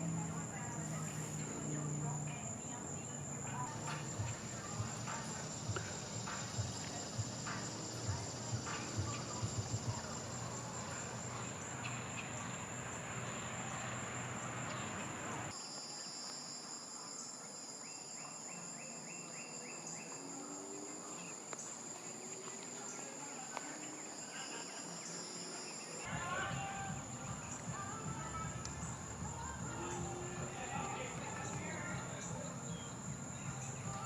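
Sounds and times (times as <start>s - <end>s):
high-pitched insect trill: 0.0s - 34.0s
lower insect trill: 0.0s - 34.0s.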